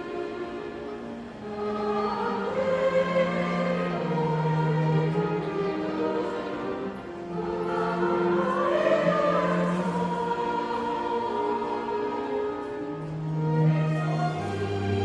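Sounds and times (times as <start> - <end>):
vocal ensemble singing chords: 0.0 - 15.0.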